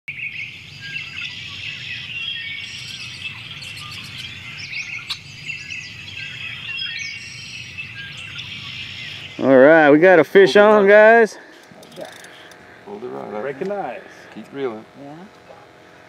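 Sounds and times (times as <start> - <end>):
birds chirping and calling: 0.1 - 13.1.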